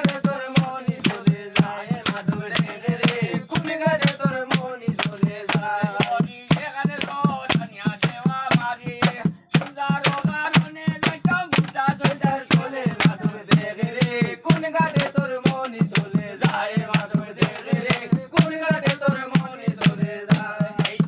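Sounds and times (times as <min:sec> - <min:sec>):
rattle-like percussive strikes: 0:00.0 - 0:21.0.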